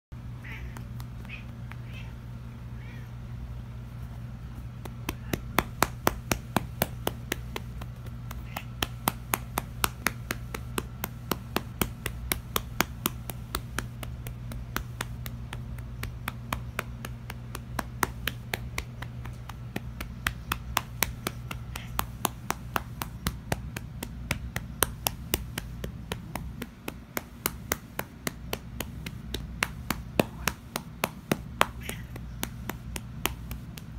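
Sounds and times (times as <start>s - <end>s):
hand slapping cat fur: 0.2s - 3.1s, 3.7s - 33.9s.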